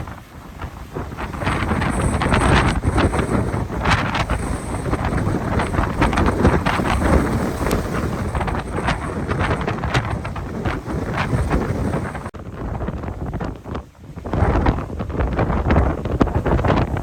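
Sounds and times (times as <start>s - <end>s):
rough sea: 0.0s - 17.0s
wind buffeting microphone: 0.0s - 17.0s.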